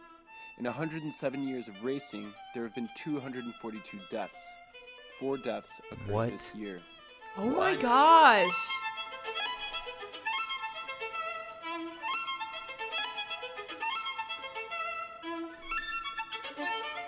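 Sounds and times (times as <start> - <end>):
background music with held notes: 0.0 - 17.0.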